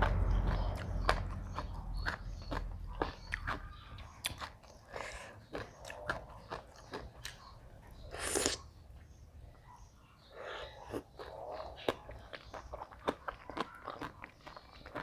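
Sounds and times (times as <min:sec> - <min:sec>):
person chewing crunchy food: 0:00.0 - 0:08.7, 0:10.4 - 0:15.0.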